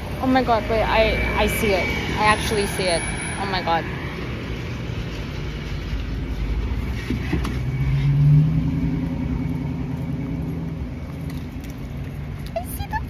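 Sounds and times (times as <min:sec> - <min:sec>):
car passing: 0:00.0 - 0:13.0
low traffic rumble: 0:00.0 - 0:13.0.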